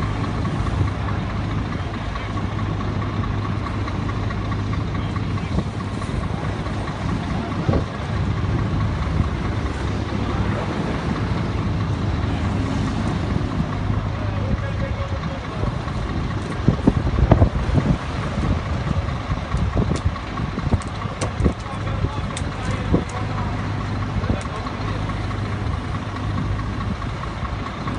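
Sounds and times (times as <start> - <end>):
heavy diesel engines running: 0.0 - 27.9.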